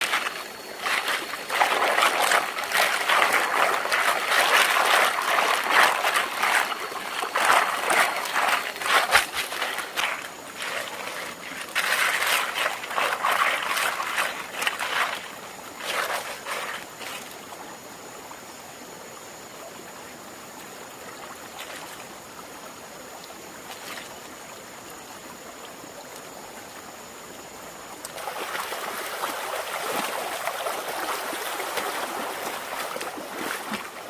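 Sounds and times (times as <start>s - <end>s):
water splashing and trickling: 0.0s - 18.3s, 20.6s - 22.4s, 23.2s - 24.6s, 27.9s - 34.0s.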